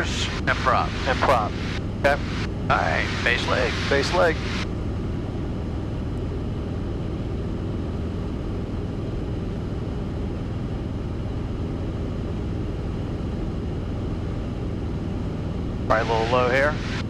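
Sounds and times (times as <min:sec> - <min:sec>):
airplane engine and propeller drone: 0:00.0 - 0:17.0.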